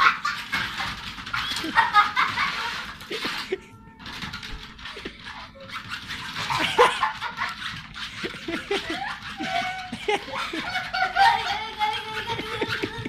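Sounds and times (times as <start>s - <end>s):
people laughing and giggling: 0.0s - 3.8s, 6.4s - 13.0s.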